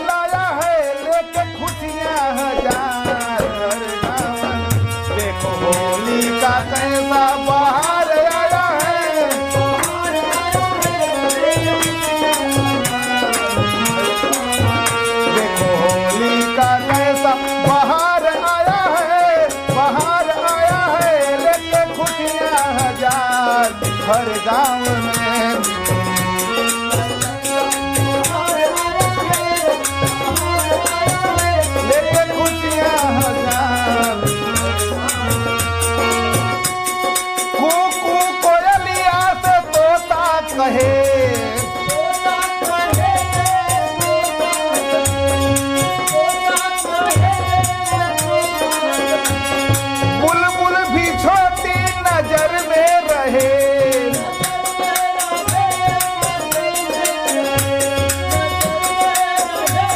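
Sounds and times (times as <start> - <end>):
hand drum rhythm: 0.0 - 59.9
harmonium folk song: 0.0 - 59.9.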